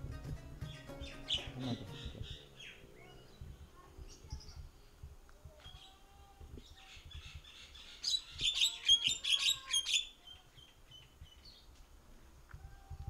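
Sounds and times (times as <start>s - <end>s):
faint bird chirps: 0.7s - 11.7s.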